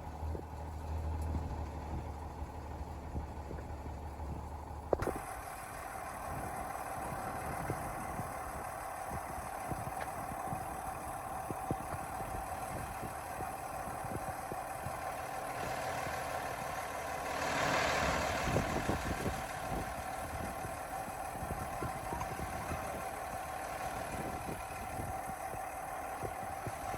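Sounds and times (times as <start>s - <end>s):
diesel truck engine idling: 0.0s - 26.9s.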